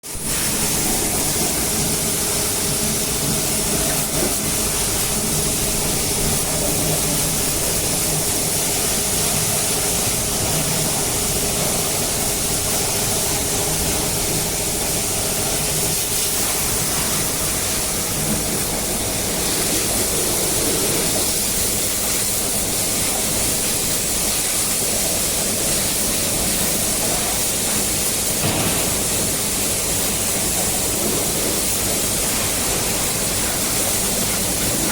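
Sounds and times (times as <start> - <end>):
high-pressure water spray hissing: 0.0 - 34.9.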